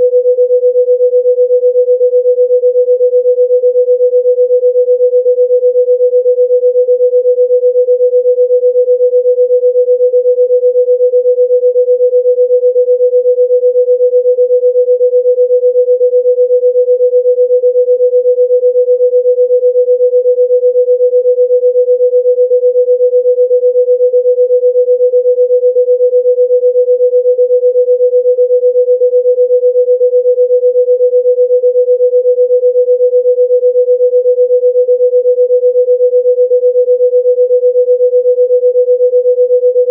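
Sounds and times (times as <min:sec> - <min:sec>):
steady electronic sine tone: 0:00.0 - 0:39.9.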